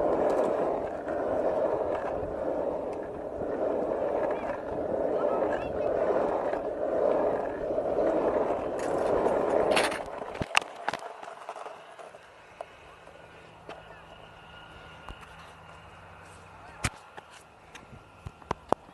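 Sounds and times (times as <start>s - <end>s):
skateboard clacks: 0.0s - 15.9s, 16.8s - 18.9s
skateboard wheels rolling on asphalt: 0.0s - 18.9s.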